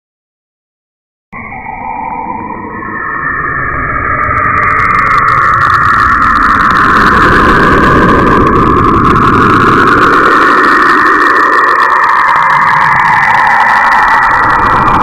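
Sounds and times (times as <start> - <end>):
low rumble: 1.4 - 15.0
steady rushing drone: 1.4 - 15.0.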